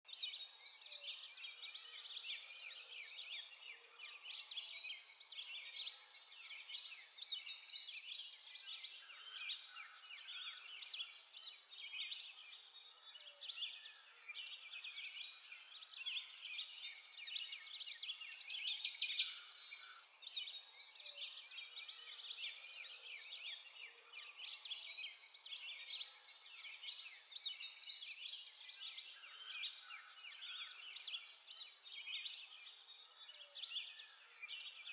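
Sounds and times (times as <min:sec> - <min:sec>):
many birds chirping and singing: 0:00.0 - 0:34.9.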